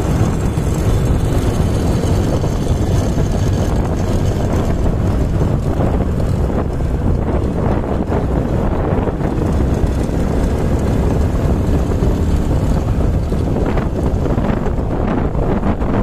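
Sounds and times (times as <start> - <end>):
vehicle driving on paved road: 0.0 - 16.0
wind on microphone: 0.0 - 16.0.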